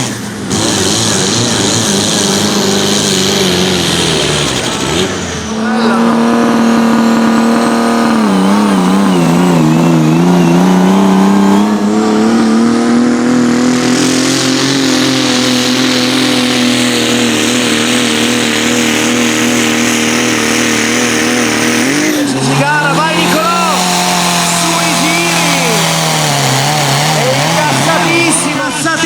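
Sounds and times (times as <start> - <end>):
tractor engine at high revs: 0.0 - 29.0.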